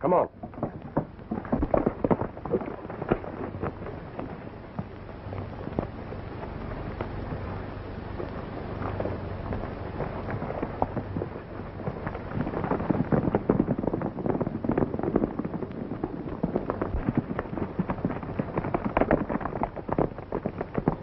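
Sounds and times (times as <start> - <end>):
horses galloping on dry ground: 0.0 - 21.0.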